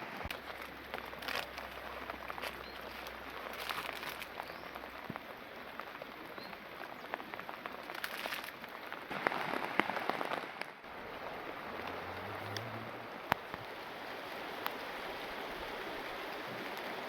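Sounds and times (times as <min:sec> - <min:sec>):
heavy rain falling: 0:00.0 - 0:17.0
raindrops ticking: 0:00.0 - 0:17.0.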